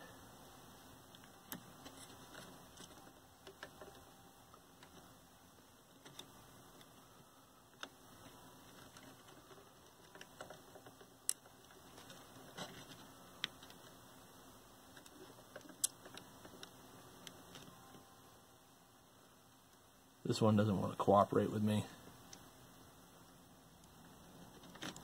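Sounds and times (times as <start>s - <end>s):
low hiss: 0.0s - 25.0s.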